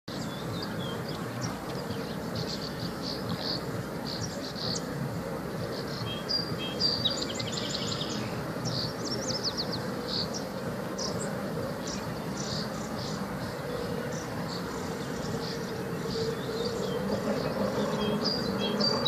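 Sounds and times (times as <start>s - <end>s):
songbirds chirping and singing: 0.0s - 19.0s
steady low background noise: 0.1s - 19.0s.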